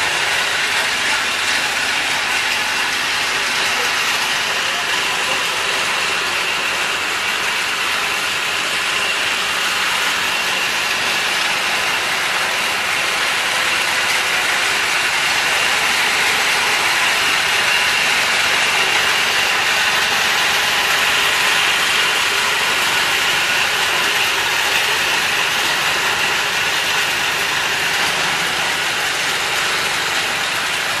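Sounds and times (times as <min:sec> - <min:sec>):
nut cracking machinery running: 0:00.0 - 0:31.0.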